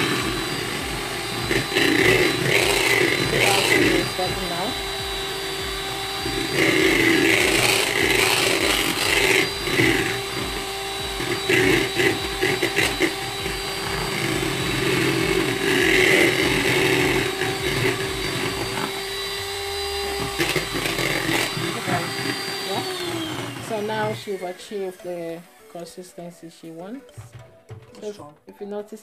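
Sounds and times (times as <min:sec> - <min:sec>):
electric hand mixer running: 0:00.0 - 0:27.9.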